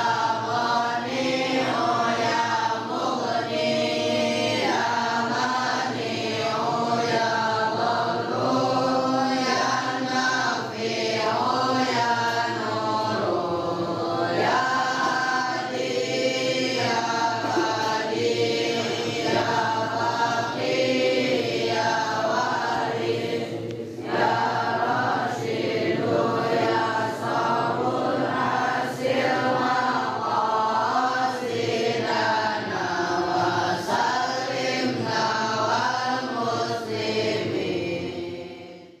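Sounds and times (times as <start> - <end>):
boys chanting in unison: 0.0 - 39.0.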